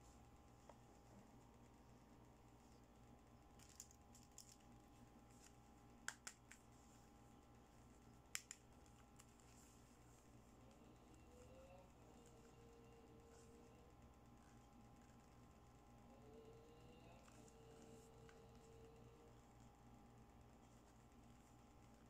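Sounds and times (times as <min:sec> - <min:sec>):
faint background hum: 0:00.0 - 0:22.0.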